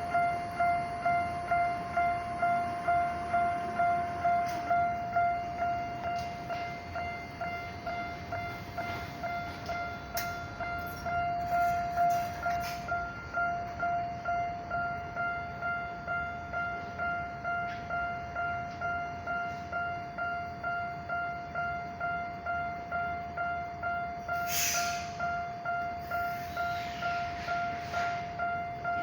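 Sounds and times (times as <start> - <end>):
level-crossing warning bell: 0.0 - 29.0.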